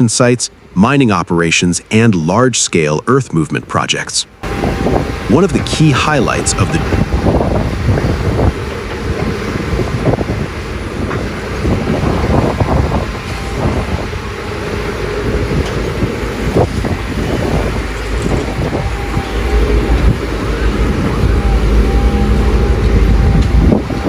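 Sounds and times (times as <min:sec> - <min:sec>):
excavator diesel engine: 0:02.9 - 0:24.0.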